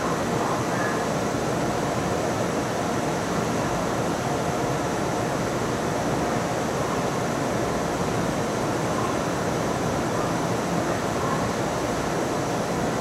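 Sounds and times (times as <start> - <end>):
train air-conditioning hum: 0.0 - 13.0.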